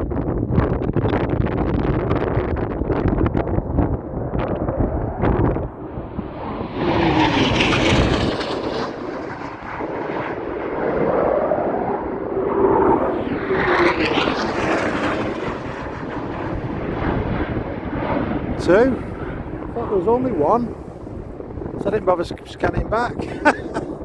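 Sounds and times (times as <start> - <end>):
jet roar passing low: 1.2 - 24.0.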